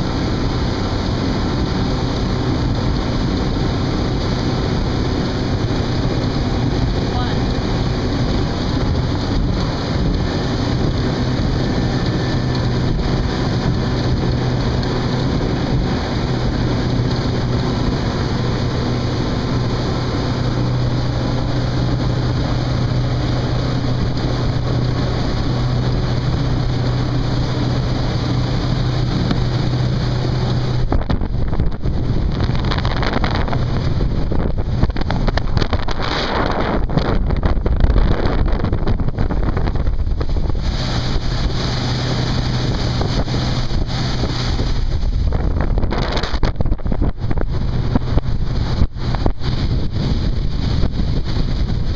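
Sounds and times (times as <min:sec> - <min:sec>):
outboard motor hum: 0:00.0 - 0:51.9
water against hull: 0:00.0 - 0:51.9
wind noise on microphone: 0:00.0 - 0:51.9.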